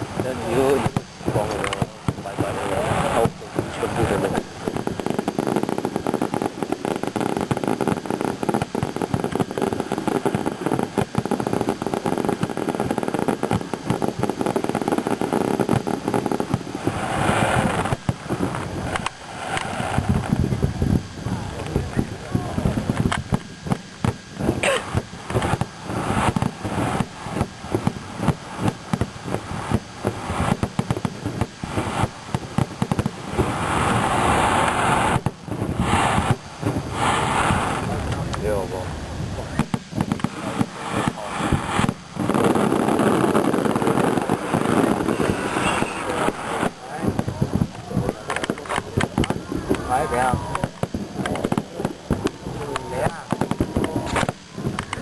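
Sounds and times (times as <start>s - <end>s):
fireworks crackles and bangs: 0.0s - 55.0s
steady rumbling: 0.0s - 55.0s.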